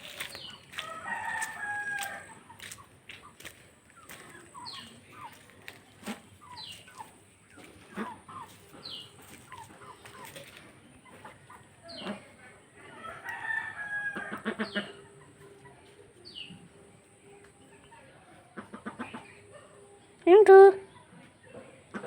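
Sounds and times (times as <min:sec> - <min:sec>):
chickens clucking and calling: 0:00.0 - 0:22.0.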